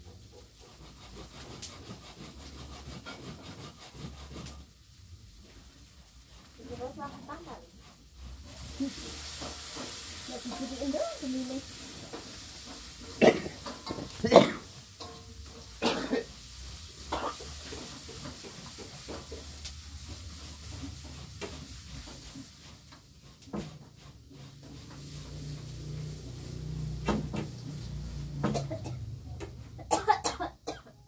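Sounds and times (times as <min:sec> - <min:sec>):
spatula scraping a metal pan: 0:00.0 - 0:28.9
food sizzling in hot oil: 0:04.3 - 0:29.9.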